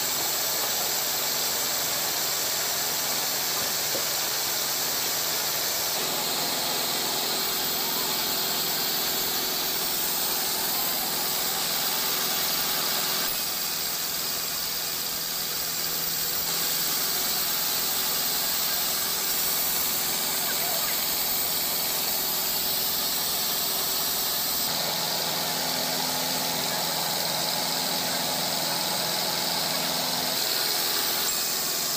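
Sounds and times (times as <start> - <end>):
high-pitched hiss and squeal: 0.0 - 31.9.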